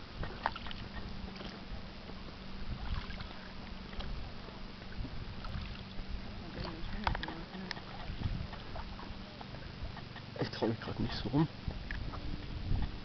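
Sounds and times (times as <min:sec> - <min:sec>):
low hum: 0:00.0 - 0:13.0
water lapping against boat hull: 0:00.0 - 0:13.0.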